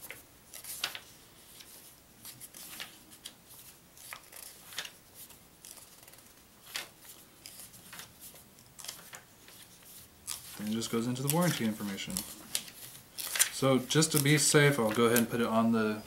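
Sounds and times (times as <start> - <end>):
paper pages rustling: 0.0 - 15.6.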